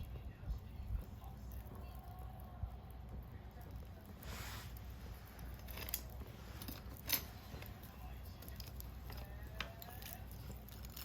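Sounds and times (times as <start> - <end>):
low fire rumble: 0.0 - 11.0.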